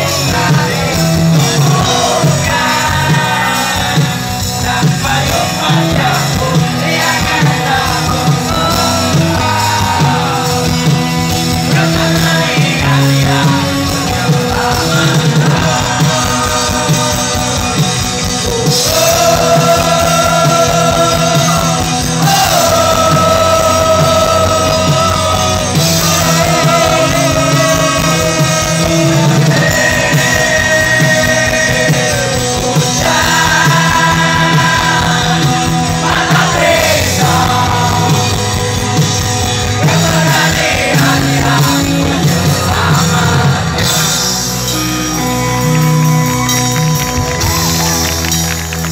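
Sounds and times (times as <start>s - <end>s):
rock band playing live: 0.0s - 48.9s.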